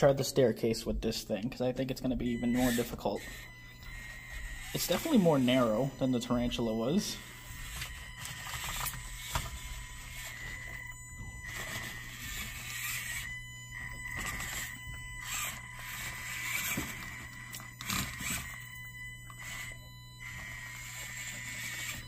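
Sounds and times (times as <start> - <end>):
toy truck motor whining: 2.0 - 22.0.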